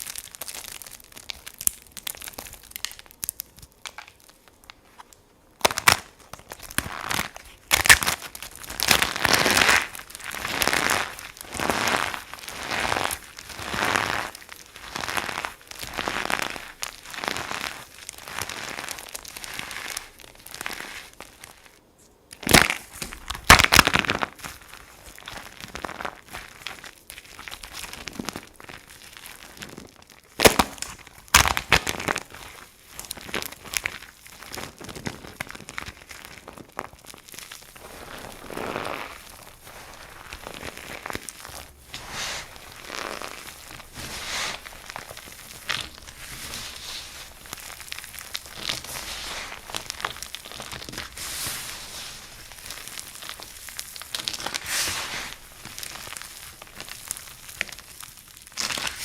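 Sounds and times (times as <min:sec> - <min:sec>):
dry soap crunching: 0:00.0 - 0:59.0.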